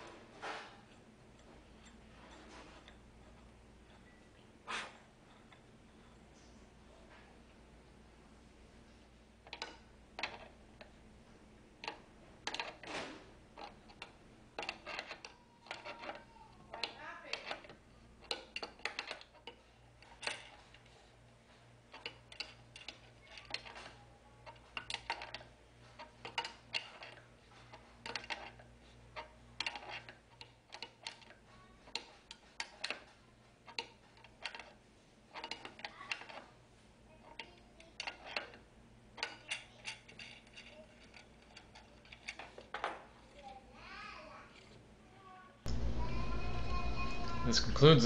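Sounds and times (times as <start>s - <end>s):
faint low hum: 0.0s - 48.0s.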